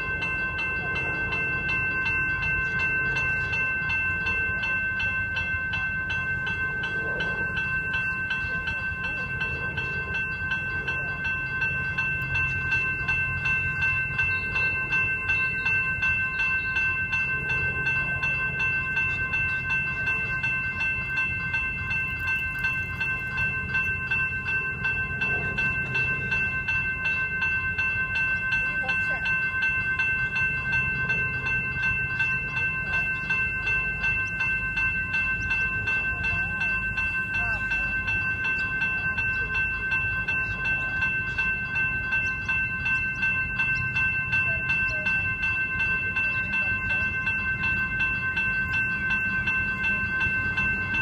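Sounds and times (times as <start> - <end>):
level crossing bells ringing: 0.0 - 51.0.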